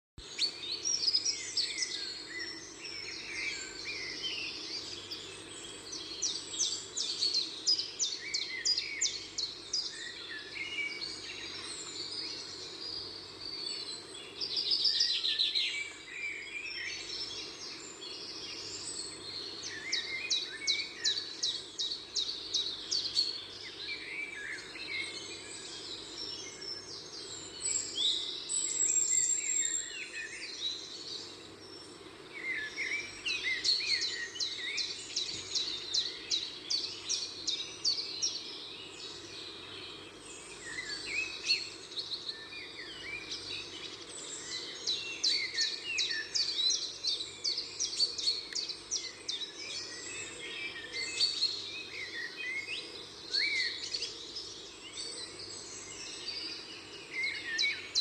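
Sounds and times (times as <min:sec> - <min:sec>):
birds chirping and trilling: 0:00.2 - 0:58.0
faint steady hum: 0:00.2 - 0:58.0.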